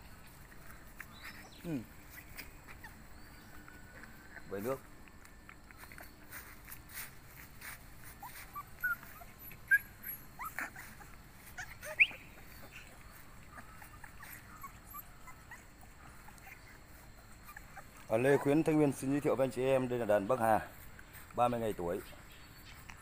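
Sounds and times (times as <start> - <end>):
puppies whimpering: 0.0 - 23.0.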